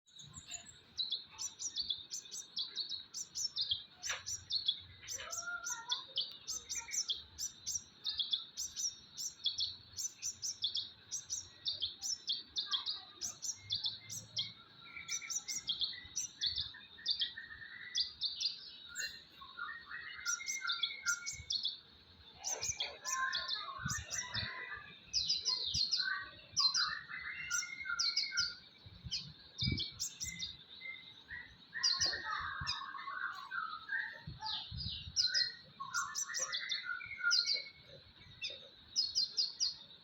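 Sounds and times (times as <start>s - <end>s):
sunbird chirping song: 0.0s - 40.0s.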